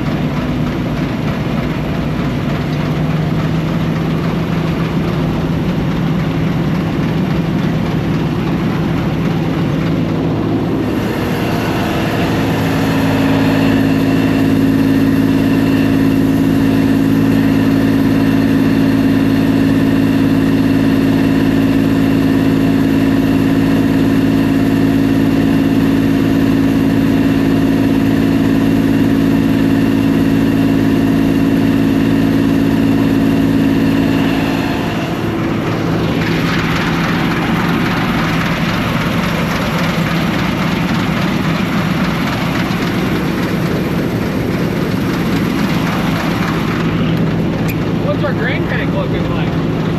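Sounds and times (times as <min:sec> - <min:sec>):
combine harvester engine running: 0:00.0 - 0:49.9.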